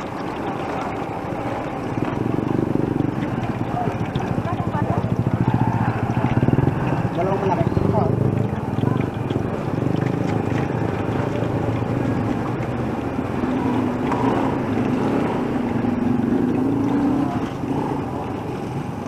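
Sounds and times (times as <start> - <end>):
street traffic engine rumble: 0.0 - 19.0.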